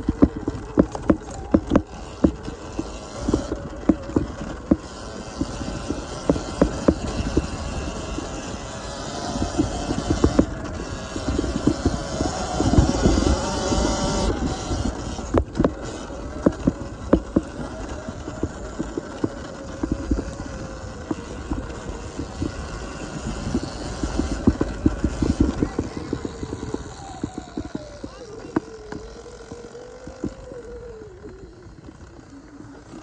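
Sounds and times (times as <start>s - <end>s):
bike knocks and rattles: 0.0s - 30.6s
electric motor whine: 0.0s - 33.0s.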